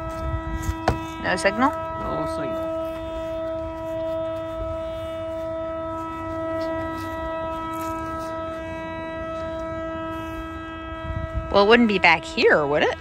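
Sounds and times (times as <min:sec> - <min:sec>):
cable locator buzzy tone: 0:00.0 - 0:13.0.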